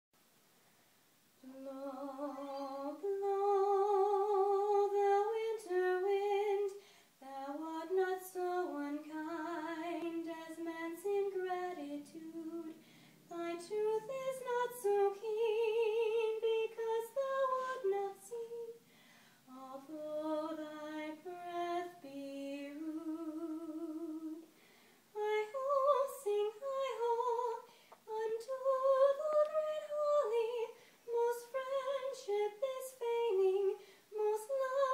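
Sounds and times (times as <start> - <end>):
woman singing with vibrato: 1.4 - 18.8, 19.5 - 24.5, 25.1 - 34.9.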